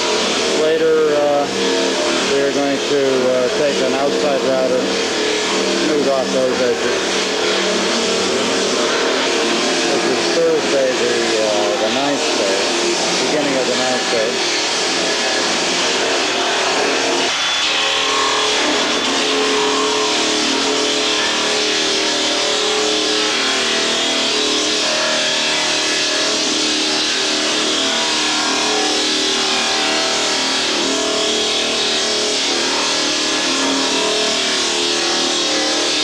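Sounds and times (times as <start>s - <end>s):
router motor whine cutting wood: 0.0s - 36.0s.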